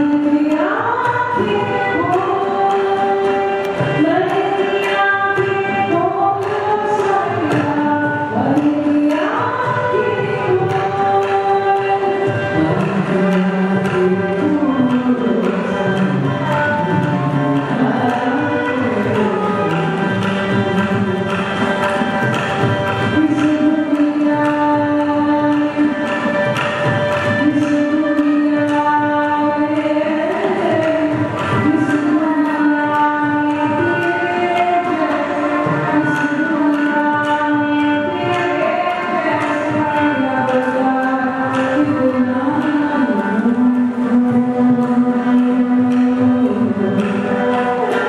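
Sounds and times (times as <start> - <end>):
hand drum playing: 0.0 - 48.0
violin melody: 0.0 - 48.0.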